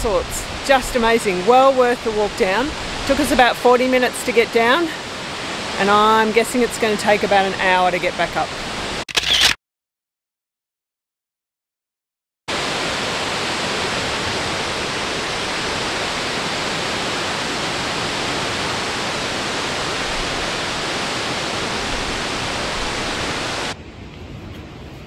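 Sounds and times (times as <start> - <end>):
waterfall rushing: 0.0 - 9.0, 12.5 - 23.8.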